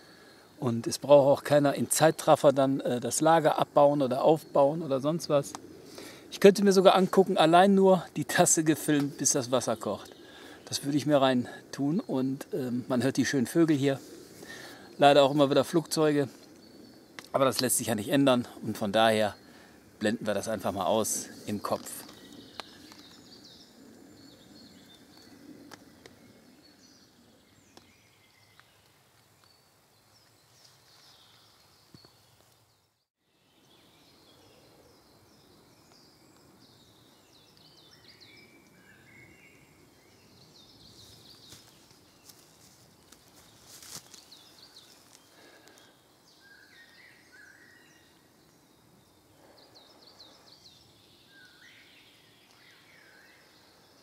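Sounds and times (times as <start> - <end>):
small birds chirping and trilling: 0.0 - 54.0
soft background hiss: 0.0 - 54.0.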